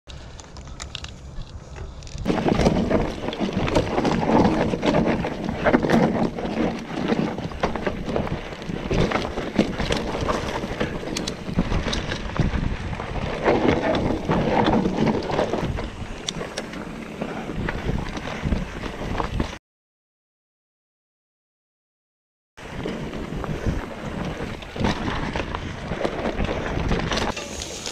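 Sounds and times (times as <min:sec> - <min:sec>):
bike rattling over bumps: 0:00.1 - 0:19.6, 0:22.6 - 0:27.9
tyres rolling over dirt: 0:00.3 - 0:19.6, 0:22.6 - 0:27.9
wind buffeting microphone: 0:01.3 - 0:19.6, 0:22.6 - 0:27.4.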